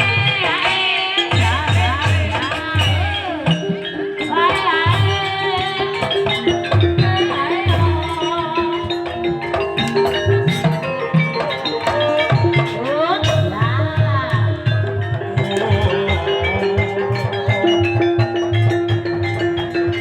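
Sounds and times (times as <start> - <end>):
mallet-struck keyed instruments: 0.0 - 20.0.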